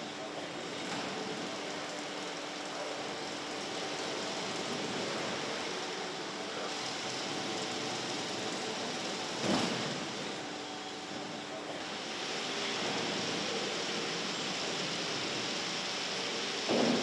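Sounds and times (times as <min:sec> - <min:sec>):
factory hall hiss: 0:00.0 - 0:17.0
faint machine hum: 0:00.0 - 0:17.0.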